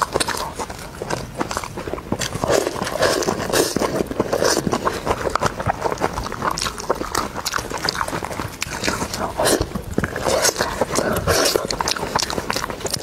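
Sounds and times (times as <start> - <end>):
meat tearing: 0.0 - 13.0
wet chewing and lip smacking: 0.0 - 13.0.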